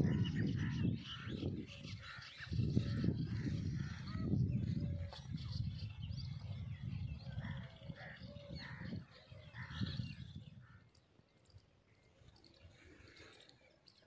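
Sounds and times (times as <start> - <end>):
wind rumbling on microphone: 0.0 - 12.9.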